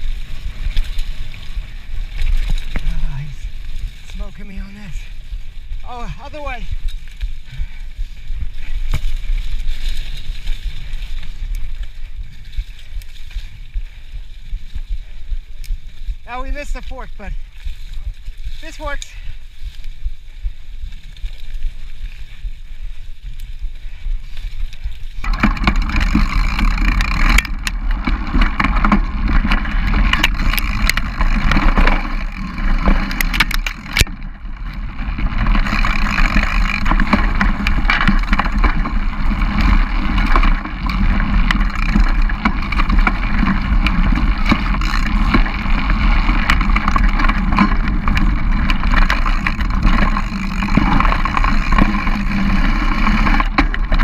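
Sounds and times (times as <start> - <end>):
bike rattling and clicking: 0.0 - 54.0
tyres rolling over leaves: 0.0 - 54.0
wind rumbling on microphone: 0.0 - 54.0.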